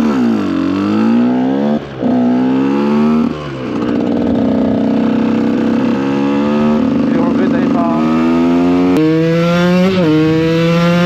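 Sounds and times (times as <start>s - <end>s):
two-stroke engine accelerating: 0.0s - 11.0s.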